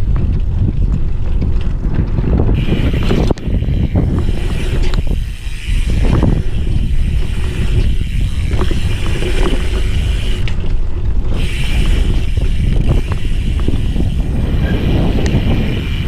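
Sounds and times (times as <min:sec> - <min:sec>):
bike rattling and clicking: 0:00.0 - 0:16.0
wind rumbling on microphone: 0:00.0 - 0:16.0.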